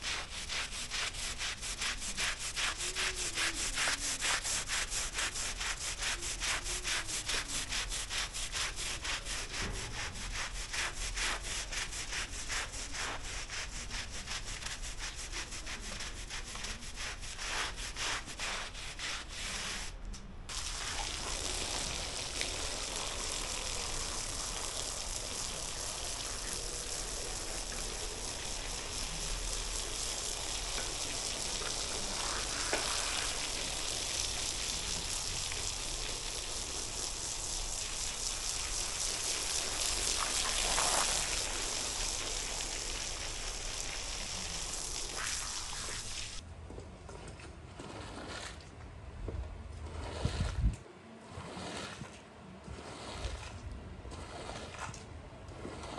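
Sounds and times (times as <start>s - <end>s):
brush scrubbing a wet rug: 0.0s - 46.4s, 47.8s - 48.6s, 49.9s - 50.7s, 51.3s - 55.0s, 55.6s - 55.9s
steady hiss: 0.0s - 46.4s.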